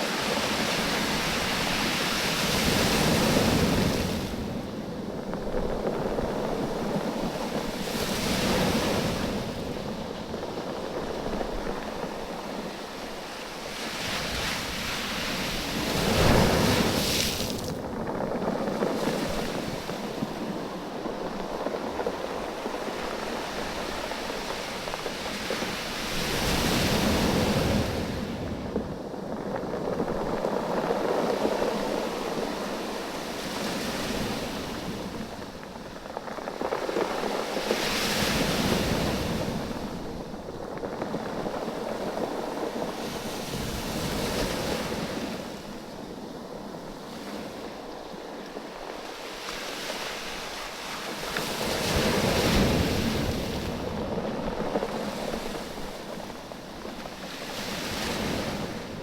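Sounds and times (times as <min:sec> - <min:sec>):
waves surging over beach: 0:00.0 - 0:59.0.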